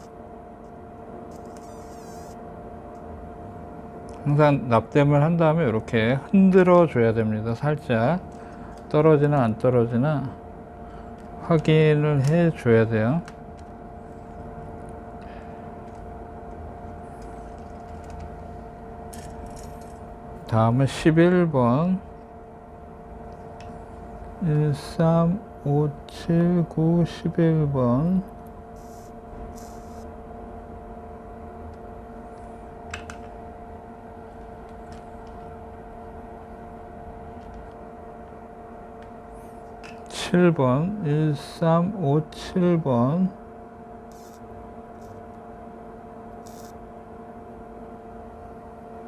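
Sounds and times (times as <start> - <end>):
mechanical hum with whine: 0.0 - 49.0.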